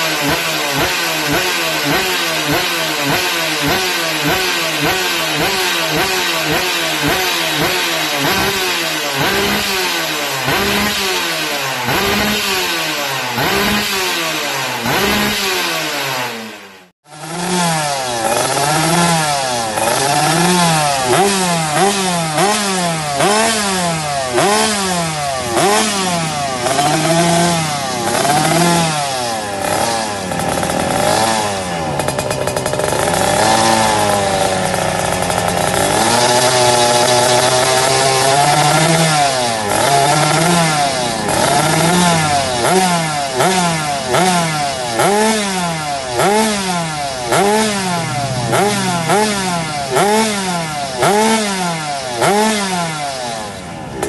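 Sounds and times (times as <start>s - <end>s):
two-stroke motorcycle revving: 0.0s - 54.0s.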